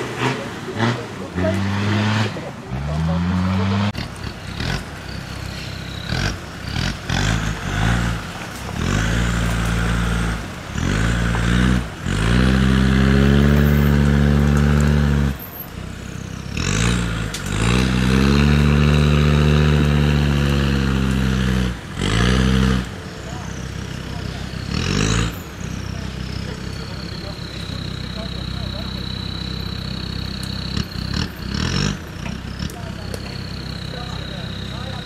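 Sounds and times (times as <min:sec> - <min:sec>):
diesel engine revving: 0:00.0 - 0:35.0
tyres spinning through mud: 0:00.0 - 0:35.0.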